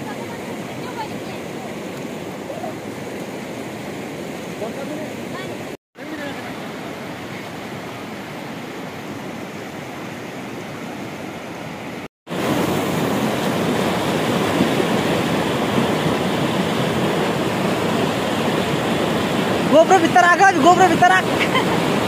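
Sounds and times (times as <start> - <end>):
river rushing over stones: 0.0 - 22.0.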